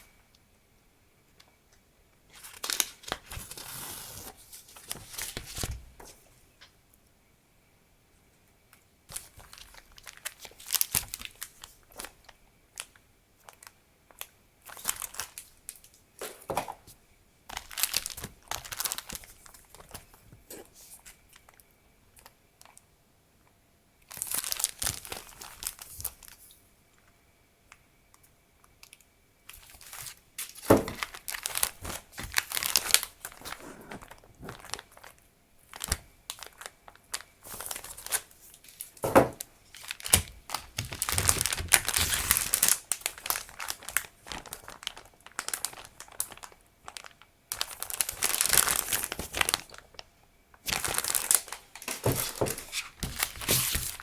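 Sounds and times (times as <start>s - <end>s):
packaging crinkling and rustling: 2.3s - 6.3s, 9.1s - 21.6s, 24.1s - 26.4s, 28.8s - 54.0s.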